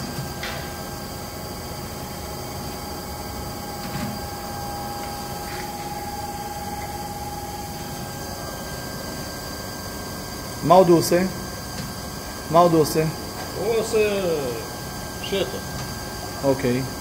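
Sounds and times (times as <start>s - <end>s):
machine humming: 0.0s - 17.0s
machine whine: 0.0s - 17.0s.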